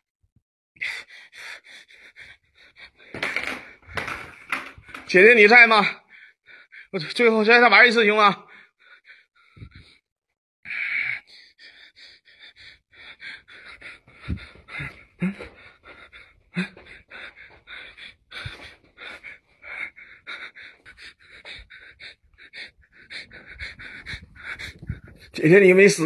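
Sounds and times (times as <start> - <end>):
man breathing heavily: 0.8 - 5.1, 5.8 - 7.0, 8.4 - 10.1, 10.7 - 25.4.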